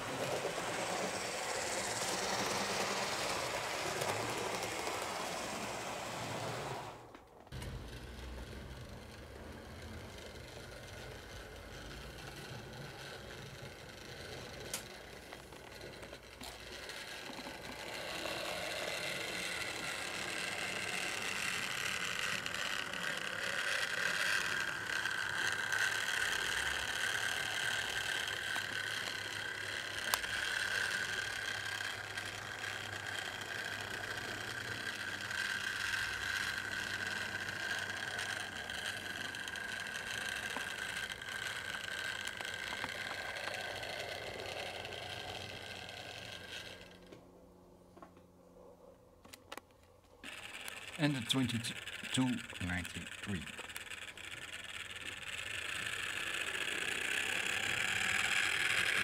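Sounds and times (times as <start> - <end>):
model train motor whine: 0.0 - 48.1, 49.2 - 59.0.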